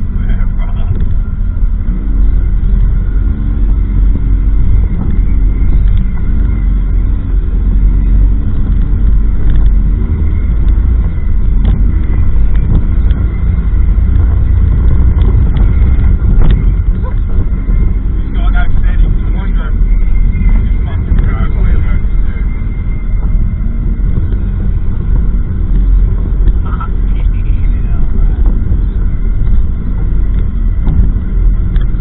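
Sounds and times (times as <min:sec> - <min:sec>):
off-road vehicle engine running: 0:00.0 - 0:32.0.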